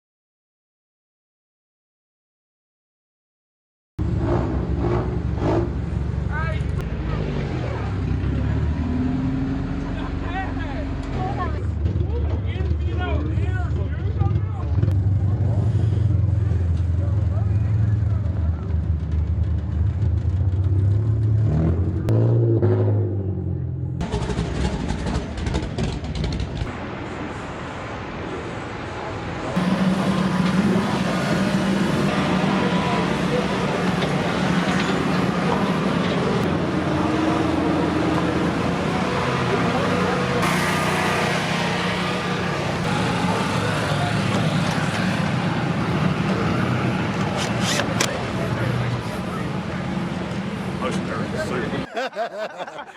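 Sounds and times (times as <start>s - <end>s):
race car engines running: 4.0s - 27.4s, 28.2s - 52.4s.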